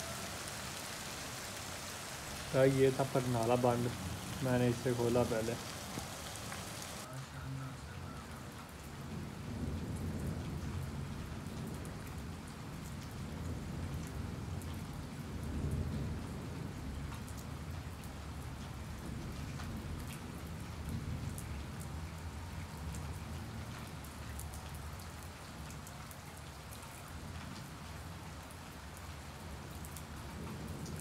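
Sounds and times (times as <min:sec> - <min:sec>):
heavy rain on concrete: 0:00.0 - 0:31.0.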